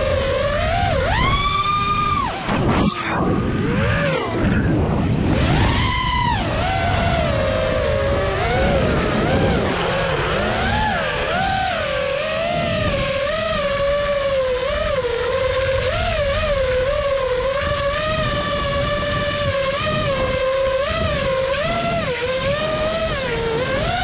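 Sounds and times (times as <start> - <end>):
engine running at high revs: 0.0 - 24.0.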